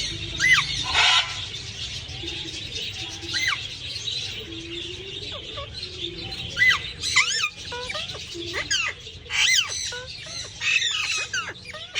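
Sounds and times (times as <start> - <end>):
parrots squawking and chirping: 0.0 - 2.2, 2.8 - 11.9.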